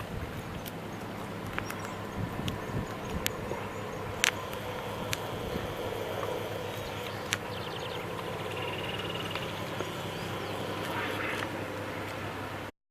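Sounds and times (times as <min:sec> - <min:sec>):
boat engine droning: 0:00.0 - 0:12.8
faint clicks: 0:00.4 - 0:12.3
rapid chirping trill: 0:00.8 - 0:12.6.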